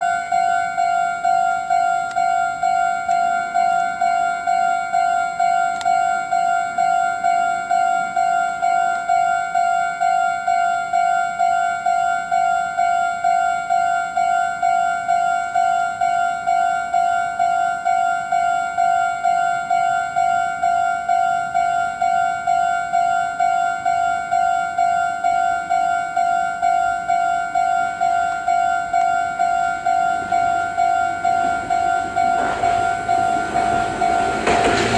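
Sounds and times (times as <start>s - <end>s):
level crossing alarm bell: 0.0s - 34.9s.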